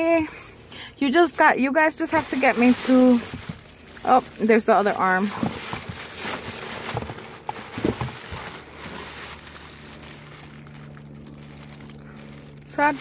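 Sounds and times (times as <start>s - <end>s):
low steady hum: 0.0s - 13.0s
plastic bags crinkling: 1.0s - 13.0s.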